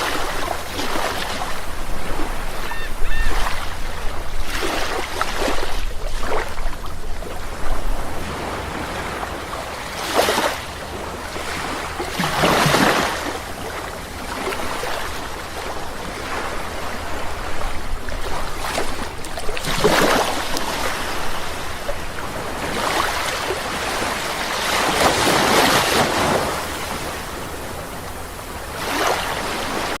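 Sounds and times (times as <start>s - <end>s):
waves breaking on a beach: 0.0s - 30.0s.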